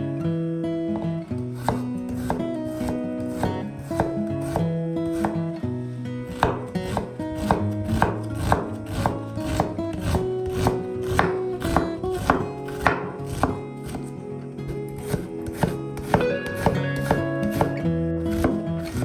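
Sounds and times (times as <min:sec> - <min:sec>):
background music with held notes: 0:00.0 - 0:19.0
knife chopping on cutting board: 0:01.0 - 0:05.5, 0:06.3 - 0:19.0.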